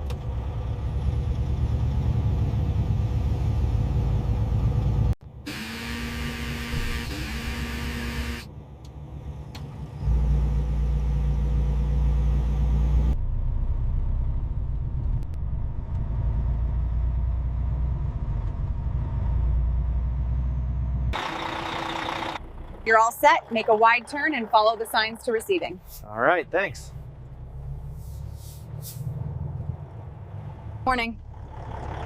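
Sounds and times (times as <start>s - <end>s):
truck engine rumbling: 0.0s - 32.0s.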